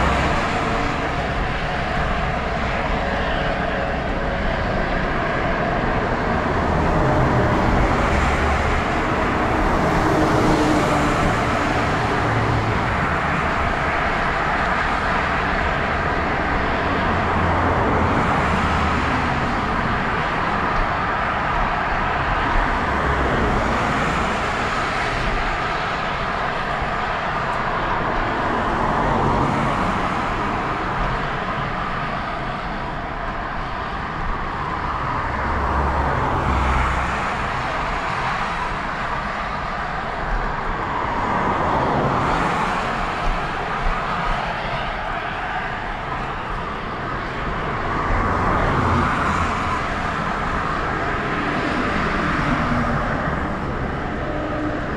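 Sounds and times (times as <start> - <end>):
bicycle road noise: 0.0 - 54.9
passing traffic: 0.0 - 54.9
wind rush: 0.0 - 54.9.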